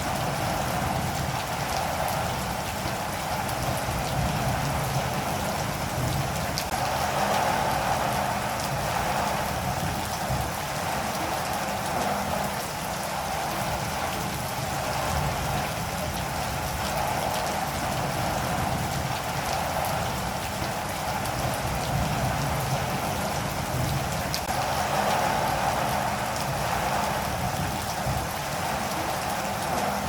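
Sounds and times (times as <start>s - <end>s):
raindrop taps: 0.0s - 30.0s
steady rain hiss: 0.0s - 30.0s.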